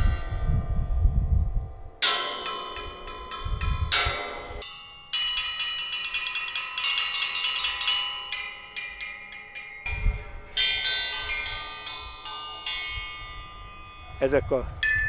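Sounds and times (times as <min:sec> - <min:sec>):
metal sculptures clanging: 0:00.0 - 0:15.0.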